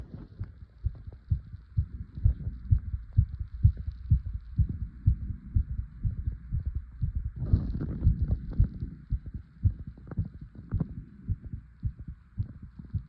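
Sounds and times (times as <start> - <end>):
fast heartbeat thuds: 0.0 - 13.0.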